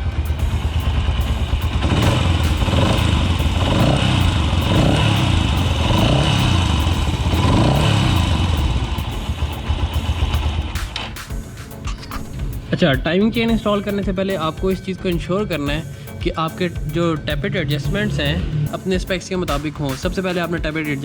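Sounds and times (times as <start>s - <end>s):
motorcycle engine revving: 0.0s - 14.2s, 16.8s - 21.0s.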